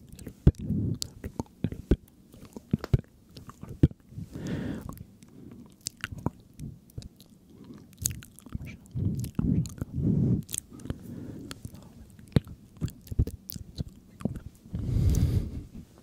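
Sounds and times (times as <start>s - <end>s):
wet mouth clicks and smacks: 0.1s - 4.0s, 4.8s - 15.2s.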